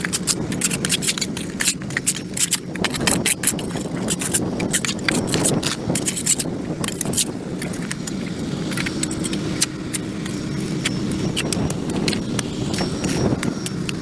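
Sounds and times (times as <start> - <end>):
hand tools scraping concrete: 0.0 - 14.0.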